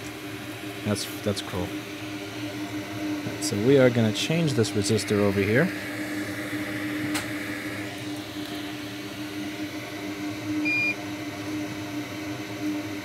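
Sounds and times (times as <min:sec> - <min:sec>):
fume extractor fan hum: 0:00.0 - 0:13.0.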